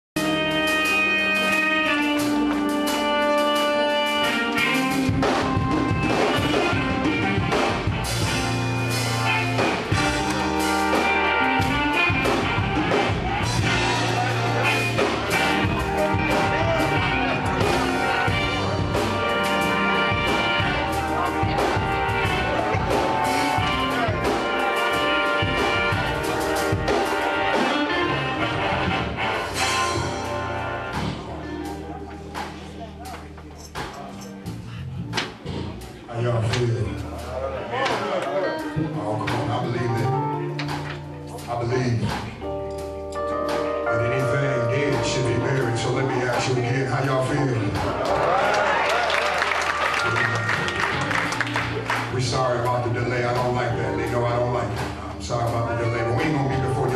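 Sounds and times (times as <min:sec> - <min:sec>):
saxophone: 0:00.2 - 0:36.1, 0:37.7 - 0:52.8
low bass notes: 0:00.2 - 0:37.9, 0:38.5 - 0:48.9, 0:49.8 - 0:56.9
drum kit: 0:00.2 - 0:56.9
gospel band playing: 0:00.2 - 0:56.9.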